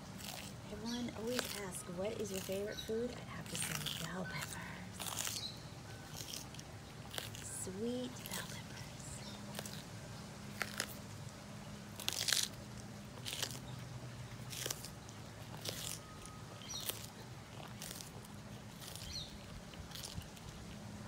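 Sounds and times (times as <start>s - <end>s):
tortoise chewing crunchily: 0.0s - 21.0s.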